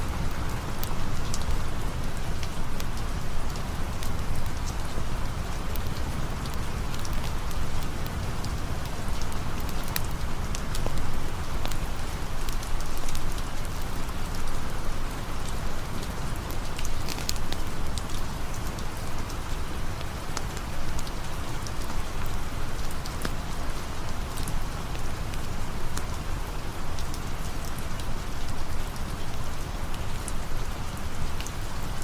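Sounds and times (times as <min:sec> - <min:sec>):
sharp ticks and drips: 0:00.0 - 0:32.0
steady rain falling: 0:00.0 - 0:32.0.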